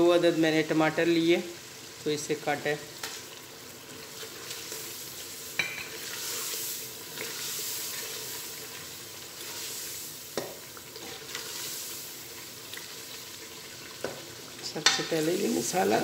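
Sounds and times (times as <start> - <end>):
tomatoes sizzling in oil: 0.0 - 16.0.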